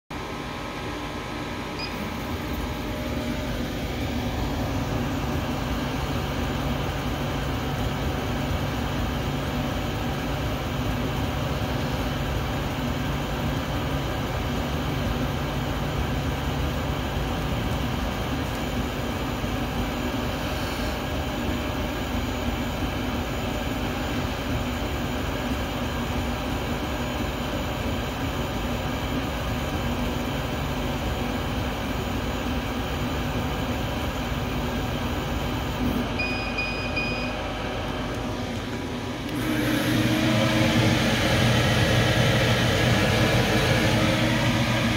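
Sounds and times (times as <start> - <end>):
laser cutter hum: 0.2 - 44.9.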